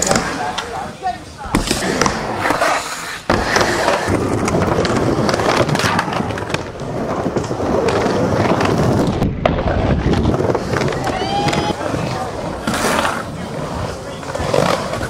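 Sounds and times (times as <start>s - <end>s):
skateboard clacks: 0.0s - 15.0s
skateboard grinding on coping: 0.0s - 15.0s
skateboard wheels rolling: 0.0s - 15.0s.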